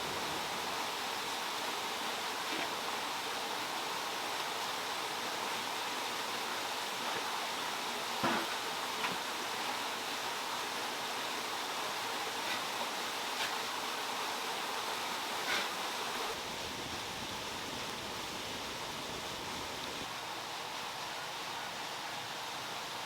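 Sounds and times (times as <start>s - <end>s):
water splashing down waterfall: 0.0s - 23.0s.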